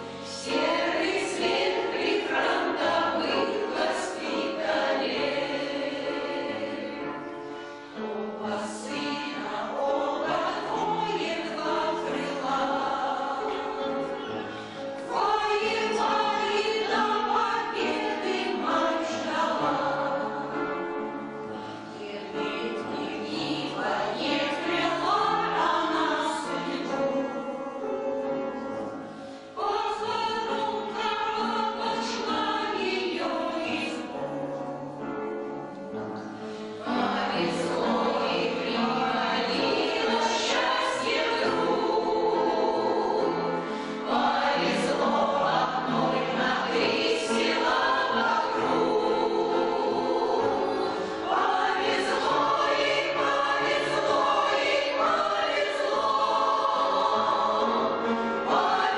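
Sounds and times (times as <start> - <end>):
choir singing: 0.0 - 58.9.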